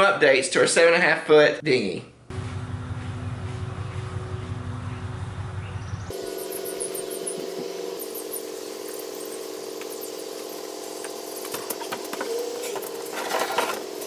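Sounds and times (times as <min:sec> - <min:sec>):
steady low hum: 0:02.1 - 0:14.0.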